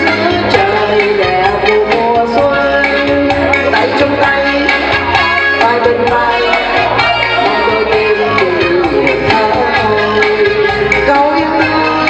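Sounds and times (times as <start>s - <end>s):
electronic keyboard with percussion beat: 0.0s - 12.0s
woman singing into a microphone: 0.0s - 12.0s.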